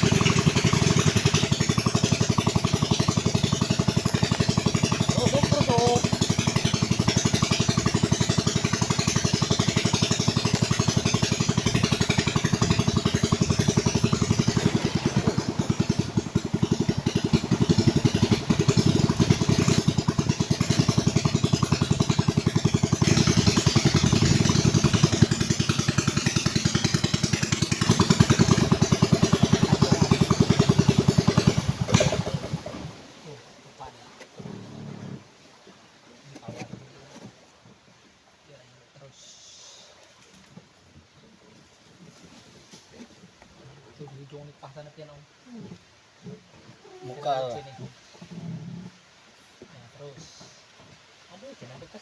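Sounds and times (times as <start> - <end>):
small boat engine running: 0.0 - 38.0, 45.4 - 49.7.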